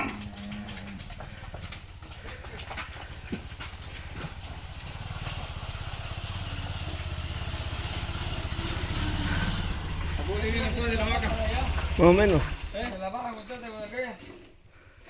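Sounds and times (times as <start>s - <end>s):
vehicle engine running: 0.4s - 13.6s.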